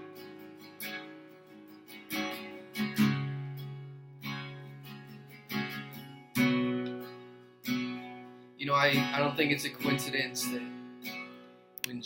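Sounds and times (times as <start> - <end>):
acoustic guitar strummed softly: 0.0 - 12.0.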